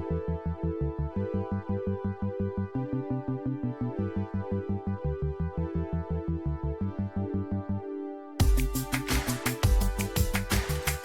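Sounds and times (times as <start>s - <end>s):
synthesizer chords: 0.0s - 11.0s.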